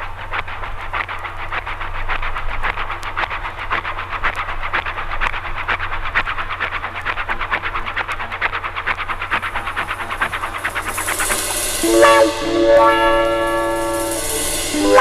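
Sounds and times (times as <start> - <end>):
steady low hum: 0.0 - 15.0
train clattering: 0.0 - 15.0.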